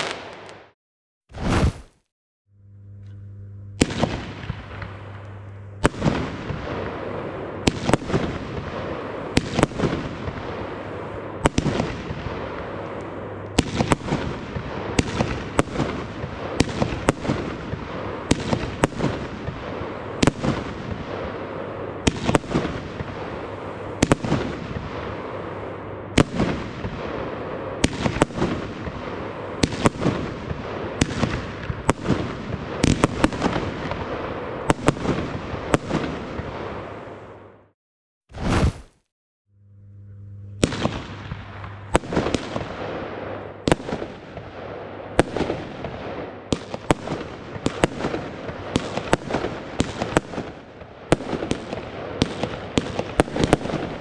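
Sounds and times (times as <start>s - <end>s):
firework bangs: 0.0s - 0.8s, 1.4s - 2.0s, 3.1s - 25.5s, 26.1s - 37.2s, 38.4s - 39.0s, 40.0s - 54.0s.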